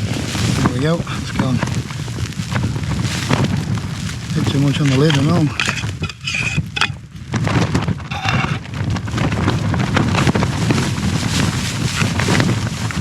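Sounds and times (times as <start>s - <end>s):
tent fabric flapping in wind: 0.0s - 13.0s.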